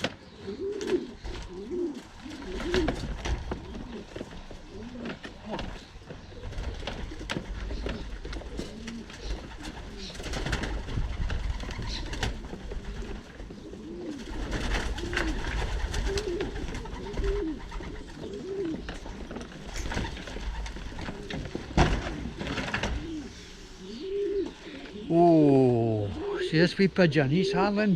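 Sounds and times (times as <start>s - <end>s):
pigeons cooing: 0.0s - 27.9s.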